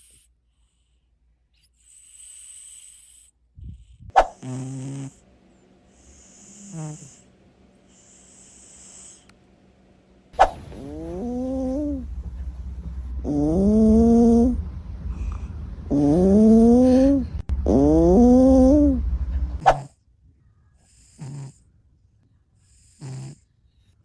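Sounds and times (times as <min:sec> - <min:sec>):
cats snoring: 0:00.0 - 0:12.2, 0:13.1 - 0:20.0, 0:20.8 - 0:21.9, 0:22.5 - 0:24.0.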